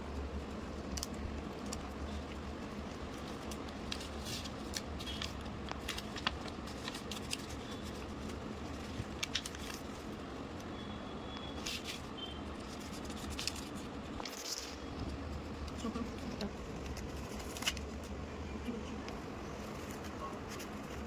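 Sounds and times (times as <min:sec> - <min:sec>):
steady low hum: 0:00.0 - 0:21.0
paper rustling and crinkling: 0:00.2 - 0:10.3, 0:11.5 - 0:18.2, 0:19.5 - 0:21.0.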